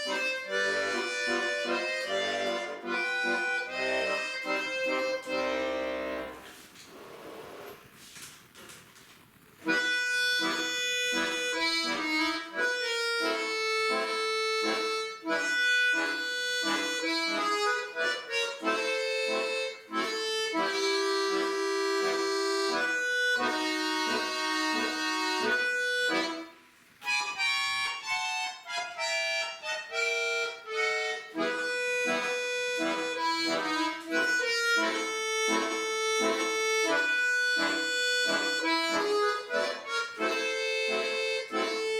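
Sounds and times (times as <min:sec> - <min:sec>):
accordion playing lively tune: 0:00.0 - 0:06.6, 0:09.6 - 0:41.9.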